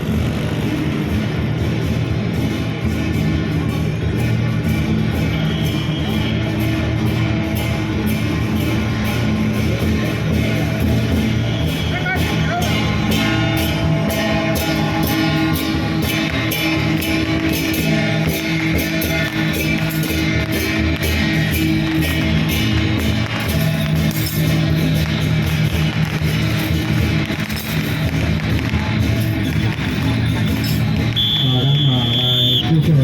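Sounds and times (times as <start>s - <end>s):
loud music with guitar and beat: 0.0s - 32.7s.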